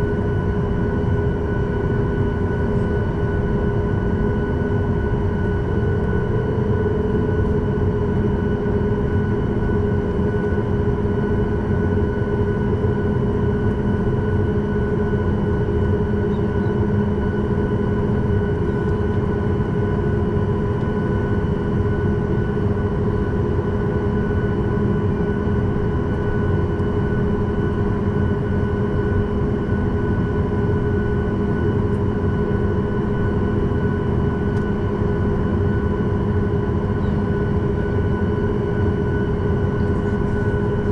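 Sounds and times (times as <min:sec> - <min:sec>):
jet engines idling with whine: 0:00.0 - 0:40.9.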